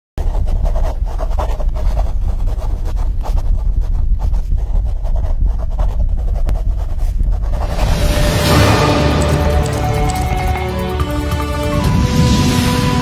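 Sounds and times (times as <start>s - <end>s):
pen scratching on paper: 0.2s - 10.6s
steady low rumble: 0.2s - 10.7s.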